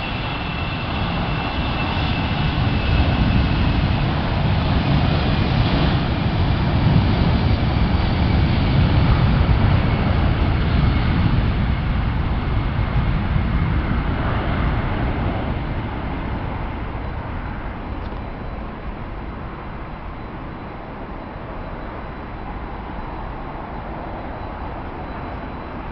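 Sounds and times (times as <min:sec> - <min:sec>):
jet engines at take-off: 0:00.0 - 0:25.9.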